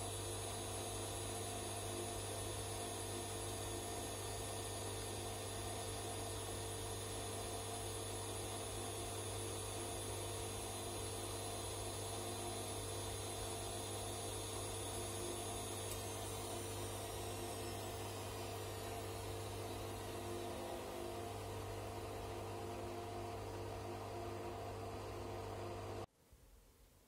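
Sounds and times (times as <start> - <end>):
faint high whine: 0.0 - 26.1.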